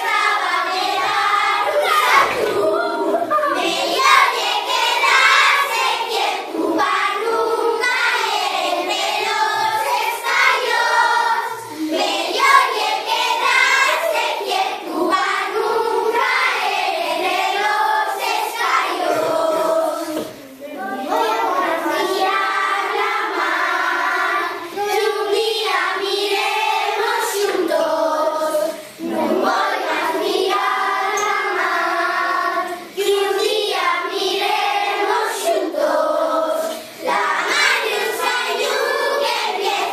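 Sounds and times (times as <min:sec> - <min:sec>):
children singing folk song: 0:00.0 - 0:39.9.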